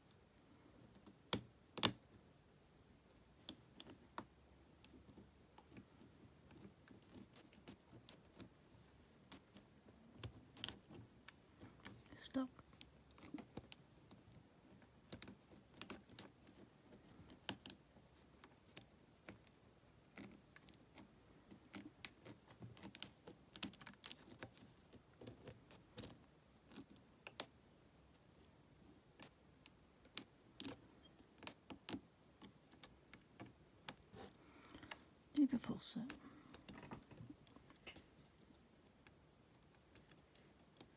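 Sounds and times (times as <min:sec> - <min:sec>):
lock pick clicking and scraping: 0:03.4 - 0:28.2, 0:28.8 - 0:35.1, 0:36.1 - 0:40.9.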